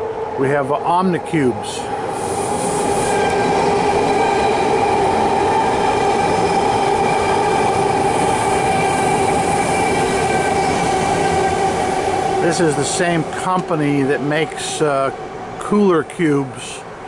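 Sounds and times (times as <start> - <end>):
high whine of steady tones: 0.0 - 17.0
train wheels rushing on rails: 0.0 - 17.0.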